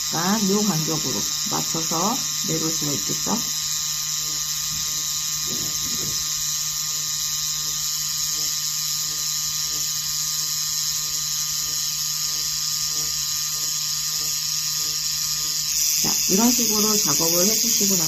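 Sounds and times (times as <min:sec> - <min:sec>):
tattoo machine motor buzzing: 0:00.0 - 0:18.0.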